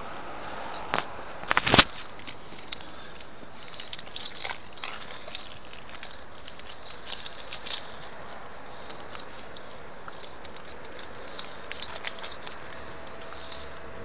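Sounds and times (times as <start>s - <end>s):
light clicks and crackles: 0.1s - 14.0s.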